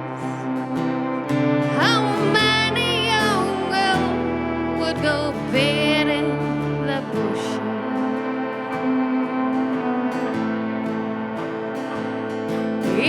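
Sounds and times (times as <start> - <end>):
folk band playing: 0.0 - 13.0.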